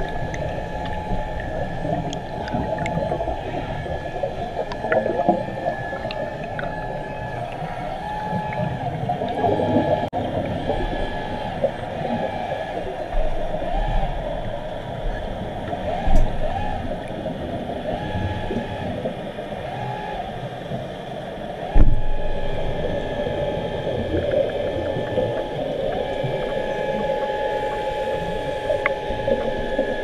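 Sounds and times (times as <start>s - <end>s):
underwater bubbling rumble: 0.0s - 30.0s
underwater wavering hum: 0.0s - 30.0s.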